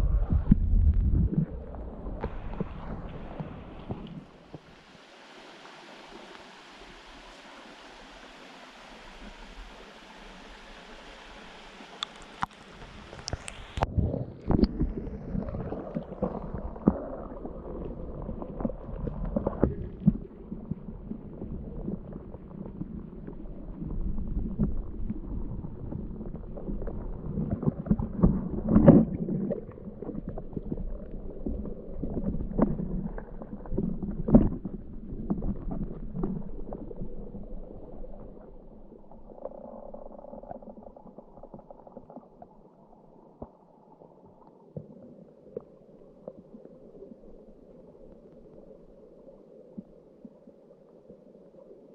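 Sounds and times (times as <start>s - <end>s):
stream water gurgling: 0.0s - 51.9s.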